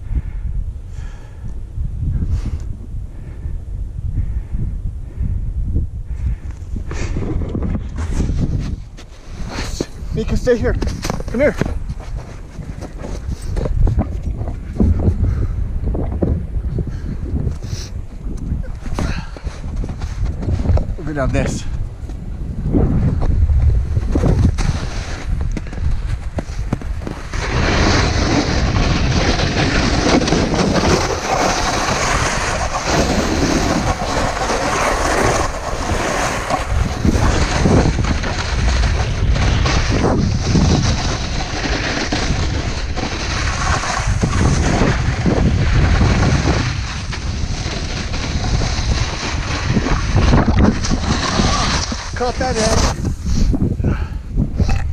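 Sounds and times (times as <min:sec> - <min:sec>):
wind buffeting microphone: 0:00.0 - 0:54.9
snowboard scraping over snow: 0:06.9 - 0:54.1.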